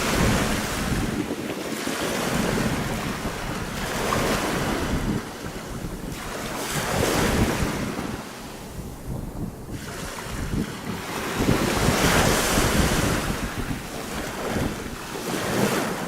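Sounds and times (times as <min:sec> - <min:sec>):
waves washing over pebbles: 0:00.0 - 0:16.0
wind on microphone: 0:00.0 - 0:16.0.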